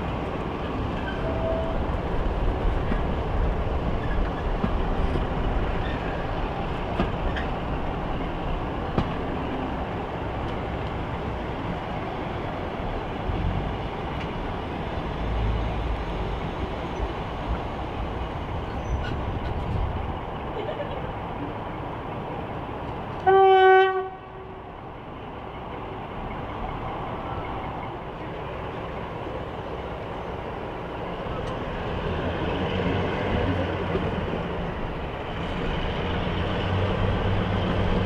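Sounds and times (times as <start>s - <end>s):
diesel locomotive rumble: 0.0s - 38.0s
train wheels rolling on track: 0.0s - 38.0s.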